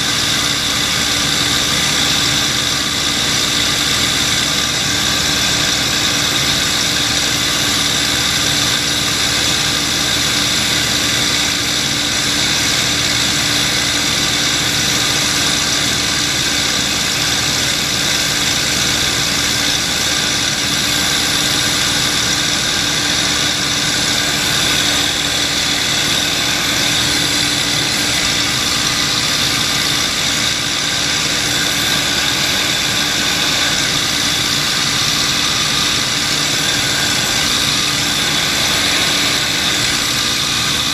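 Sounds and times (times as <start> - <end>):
aircraft engine running in flight: 0.0 - 40.9.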